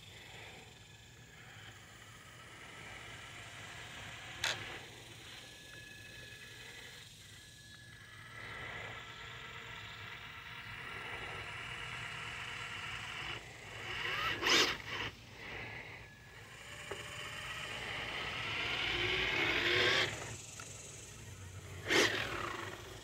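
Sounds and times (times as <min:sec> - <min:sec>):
electric motor and gears whining: 0:00.0 - 0:23.0.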